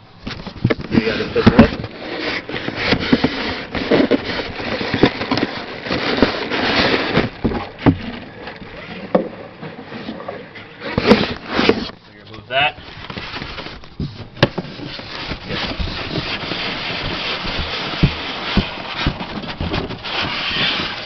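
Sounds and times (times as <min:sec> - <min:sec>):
cardboard and styrofoam rustling: 0:00.0 - 0:21.0.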